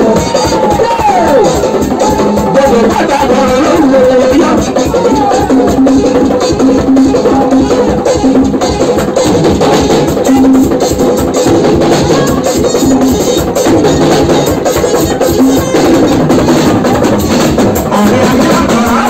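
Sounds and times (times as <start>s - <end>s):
hand drums and percussion: 0.0s - 19.0s.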